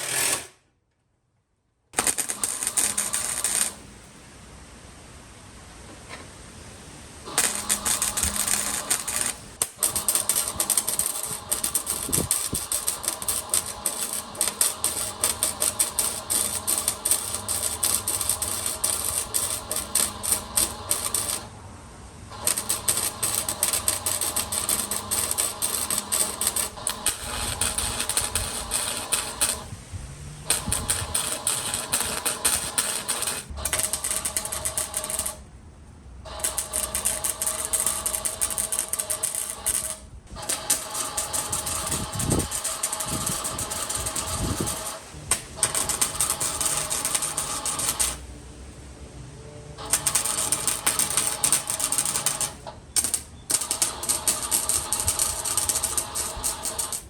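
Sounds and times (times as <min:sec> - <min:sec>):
wire welder crackling and sputtering: 0:00.0 - 0:00.6, 0:02.0 - 0:03.9, 0:07.2 - 0:21.6, 0:22.3 - 0:29.8, 0:30.4 - 0:35.5, 0:36.2 - 0:48.3, 0:49.8 - 0:57.0
steady electrical hum: 0:01.7 - 0:57.0.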